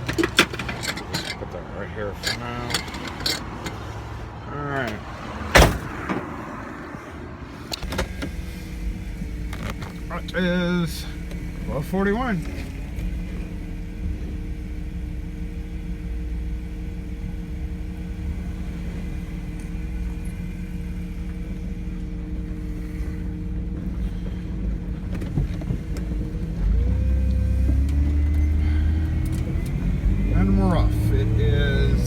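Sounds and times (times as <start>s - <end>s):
truck engine idling and pulling away: 0.0s - 32.0s.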